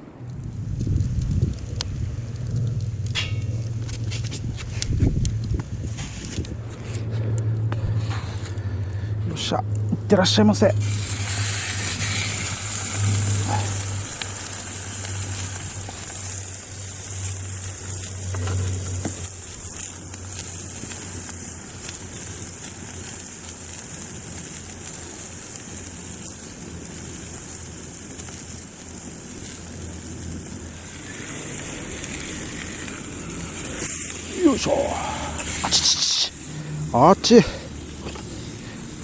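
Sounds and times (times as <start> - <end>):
steak sizzling on griddle: 0.3 - 7.0, 9.7 - 39.0.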